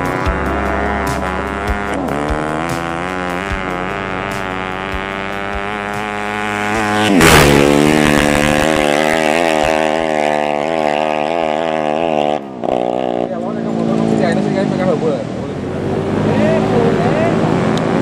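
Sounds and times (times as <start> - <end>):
racing motorcycle engine high revs: 0.0 - 18.0.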